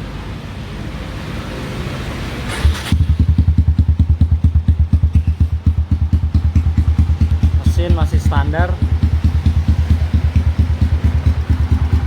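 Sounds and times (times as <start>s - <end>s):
motorcycle engine starting and idling: 2.3s - 12.0s.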